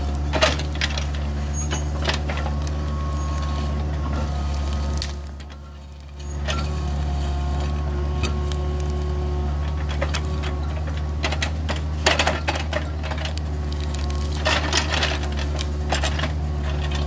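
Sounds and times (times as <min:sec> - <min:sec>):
excavator diesel engine running: 0:00.0 - 0:17.0
rake tearing through soil and branches: 0:00.0 - 0:17.0.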